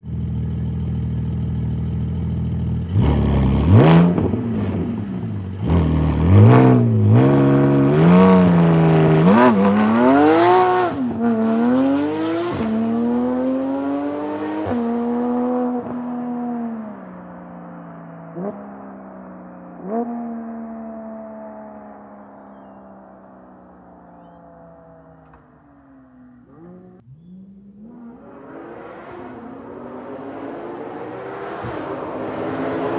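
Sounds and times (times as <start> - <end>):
car engine revving: 0.1 - 17.1, 18.2 - 32.9.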